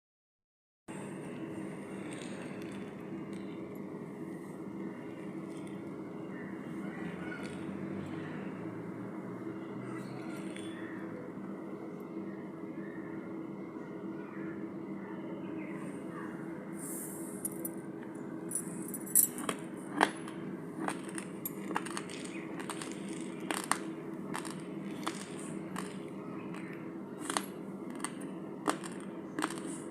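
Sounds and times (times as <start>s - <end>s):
steady low hum: 0.9s - 29.9s.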